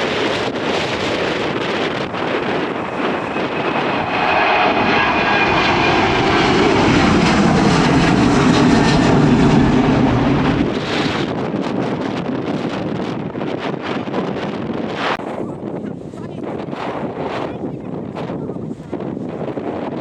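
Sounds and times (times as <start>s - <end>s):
aircraft engines rumbling: 0.0s - 20.0s
wind buffeting microphone: 0.0s - 20.0s.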